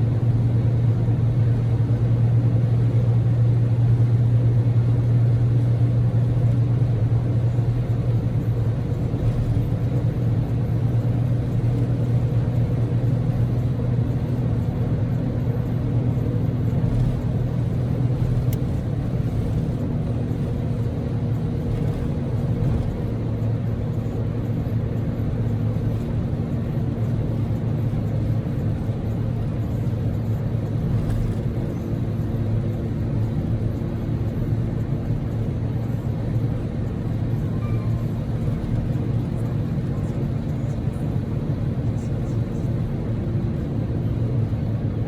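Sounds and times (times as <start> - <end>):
car engine humming: 0.0 - 45.0
road rumble: 0.0 - 45.0.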